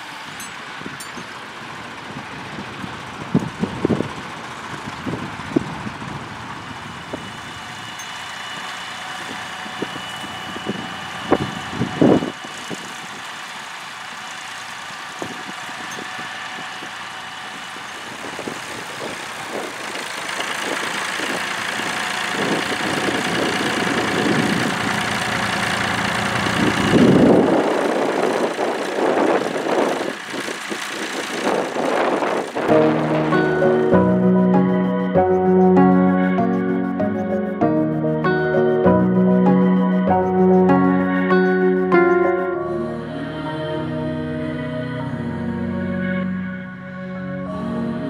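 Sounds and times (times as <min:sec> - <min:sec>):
tractor engine under load: 0:00.0 - 0:42.2.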